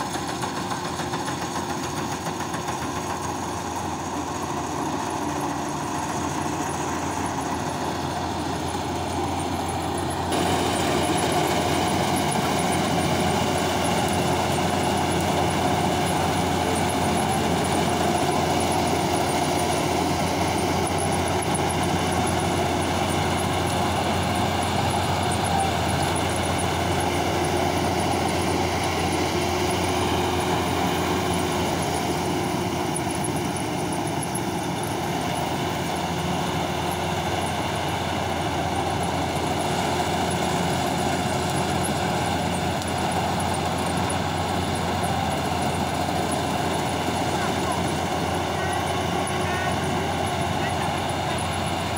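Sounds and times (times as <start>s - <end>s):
combine harvester drone: 0.0s - 51.9s.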